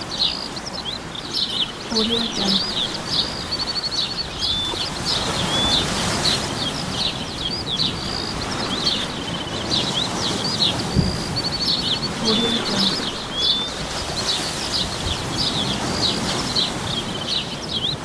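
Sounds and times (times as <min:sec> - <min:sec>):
birds singing: 0:00.0 - 0:18.0.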